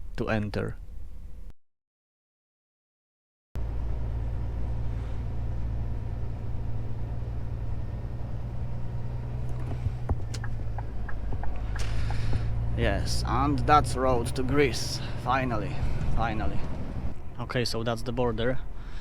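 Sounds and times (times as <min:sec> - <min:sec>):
diesel engine droning: 0:03.6 - 0:19.0.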